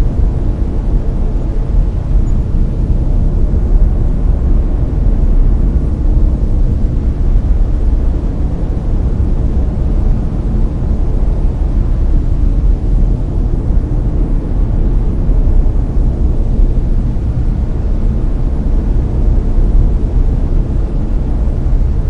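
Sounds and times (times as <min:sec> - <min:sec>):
deep rushing brown noise: 0:00.0 - 0:22.0.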